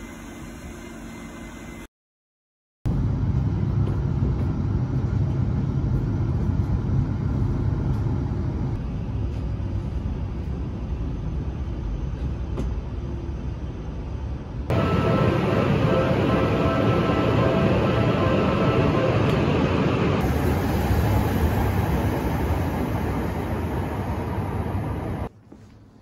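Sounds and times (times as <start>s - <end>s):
train rumble inside carriage: 2.9s - 26.0s.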